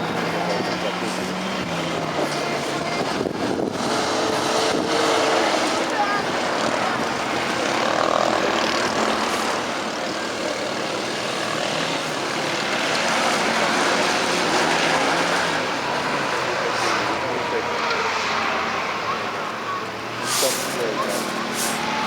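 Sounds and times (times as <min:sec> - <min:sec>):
engine running steadily: 0:00.0 - 0:18.0, 0:19.0 - 0:22.0.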